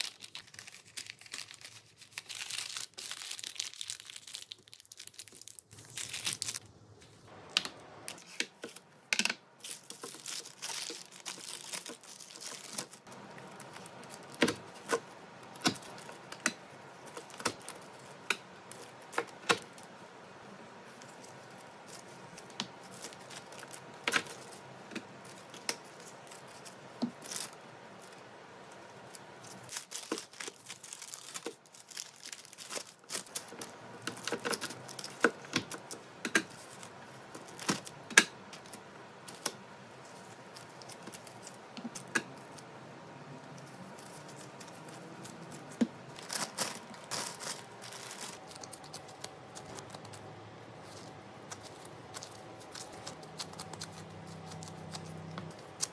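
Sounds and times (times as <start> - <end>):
parchment paper rustling: 0.0 - 55.9.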